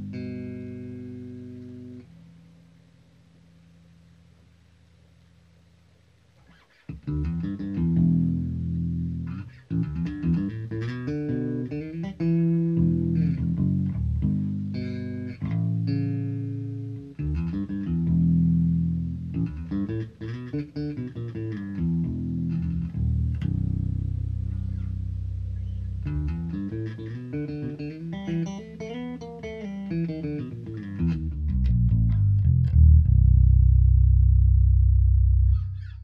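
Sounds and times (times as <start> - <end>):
electric bass guitar notes: 0.0 - 2.5, 6.9 - 36.0.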